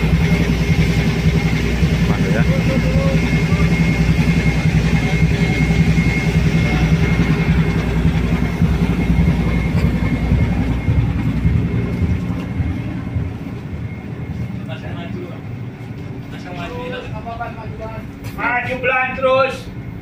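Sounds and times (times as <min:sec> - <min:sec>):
ship engine low rumble: 0:00.0 - 0:20.0
thin steady whine: 0:00.0 - 0:20.0.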